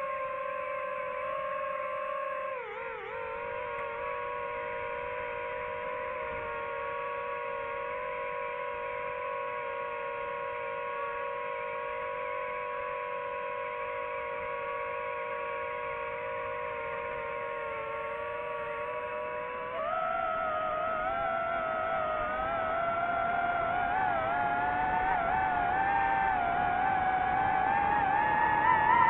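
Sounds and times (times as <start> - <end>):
drone propellers humming: 0.0 - 29.0.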